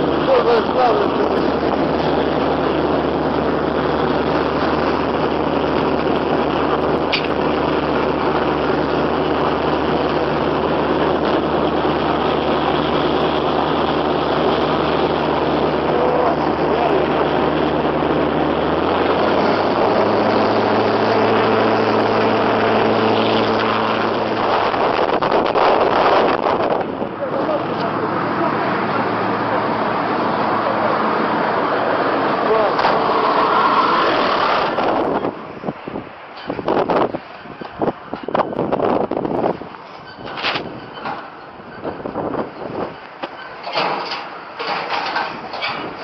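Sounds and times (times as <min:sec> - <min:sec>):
outboard boat motor running: 0:00.0 - 0:37.0.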